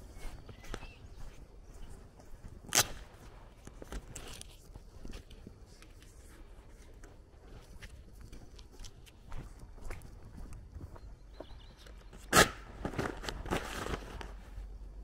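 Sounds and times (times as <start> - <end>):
footsteps on dirt road: 0.0 - 14.8.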